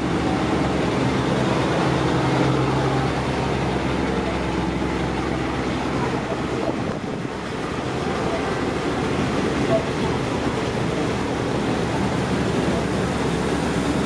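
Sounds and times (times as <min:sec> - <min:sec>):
diesel train engine droning: 0:00.0 - 0:14.0.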